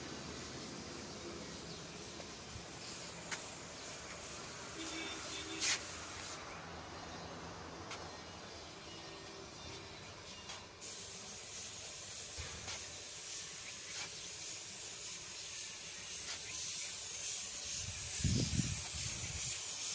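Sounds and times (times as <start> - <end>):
steady high hiss: 0.0 - 19.9.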